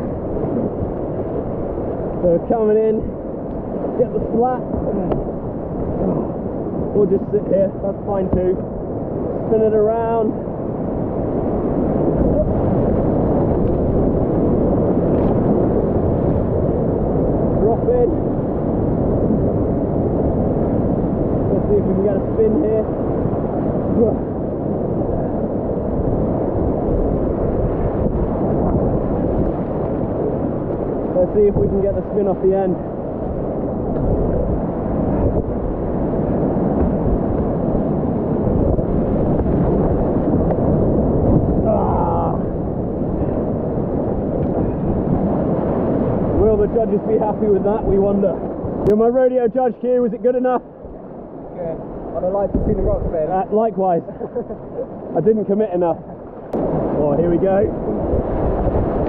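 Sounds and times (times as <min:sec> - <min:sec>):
whitewater rushing: 0:00.0 - 0:18.4, 0:19.0 - 0:59.0.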